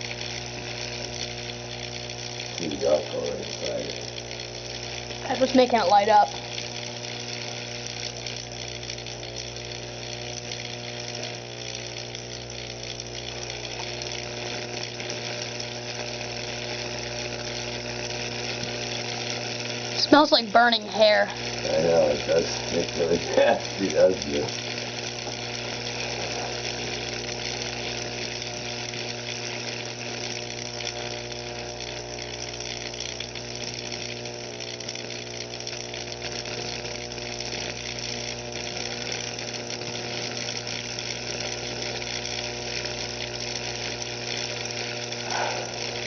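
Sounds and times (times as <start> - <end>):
electric arc buzzing and crackling: 0.0 - 46.0.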